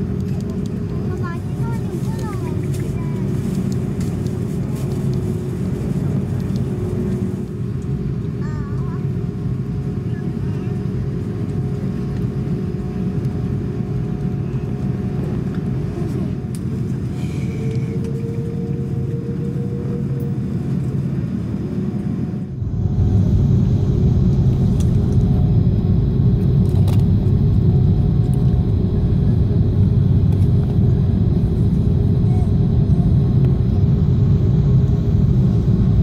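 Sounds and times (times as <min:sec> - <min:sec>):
airliner engines rumbling in cabin: 0:00.0 - 0:36.0.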